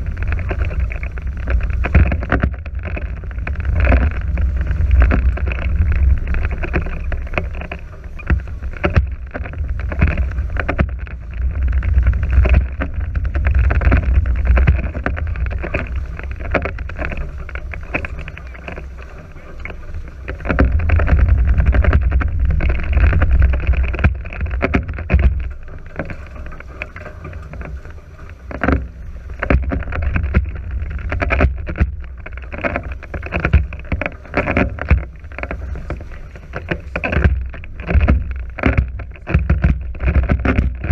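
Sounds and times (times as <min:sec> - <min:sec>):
water splashing against hulls: 0:00.0 - 0:40.9
wind rumble on microphone: 0:00.0 - 0:40.9.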